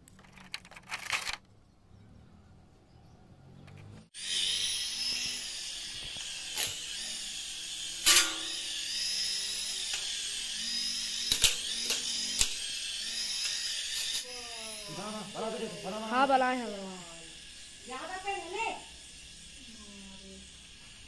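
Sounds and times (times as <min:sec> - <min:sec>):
toy helicopter rotors whining: 0:03.7 - 0:21.0.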